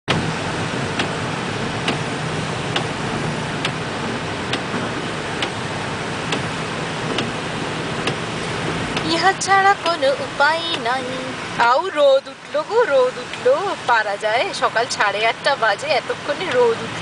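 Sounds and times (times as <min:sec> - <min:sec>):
car cabin road and engine noise: 0:00.1 - 0:17.0.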